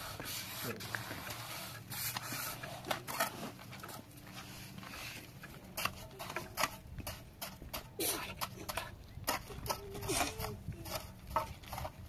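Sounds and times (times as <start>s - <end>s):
trowel scraping mortar: 0.0s - 12.0s.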